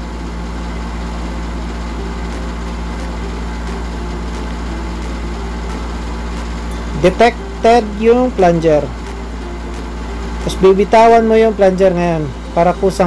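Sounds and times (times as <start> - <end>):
engine room machinery drone: 0.0 - 13.0
faint steady hum: 0.0 - 13.0.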